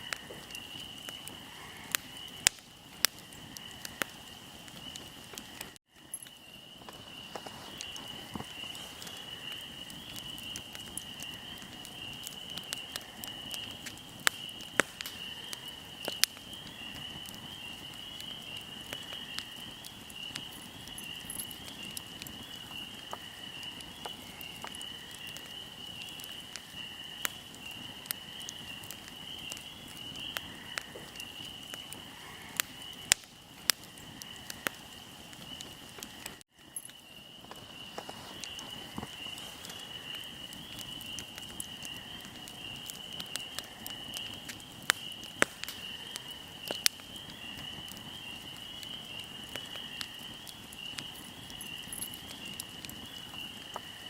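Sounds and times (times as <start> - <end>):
fire crackling and popping: 0.0 - 54.0
insects chirring: 0.0 - 54.0.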